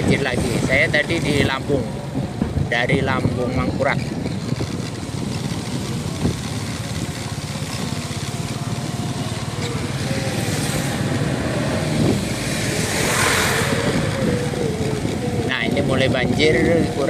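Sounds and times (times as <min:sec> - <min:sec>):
motor scooter engine running: 0:00.0 - 0:17.0.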